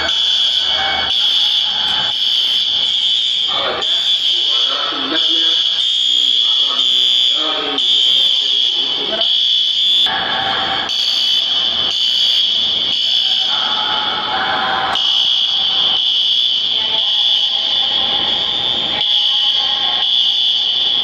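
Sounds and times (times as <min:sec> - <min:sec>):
fire alarm pulsing tone: 0:00.0 - 0:10.2, 0:10.8 - 0:14.3, 0:14.9 - 0:21.0.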